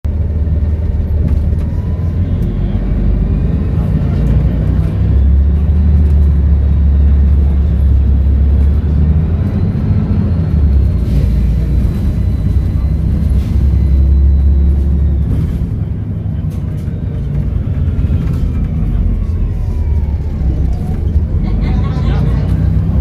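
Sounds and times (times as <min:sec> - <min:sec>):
bus diesel engine droning: 0:00.1 - 0:23.0.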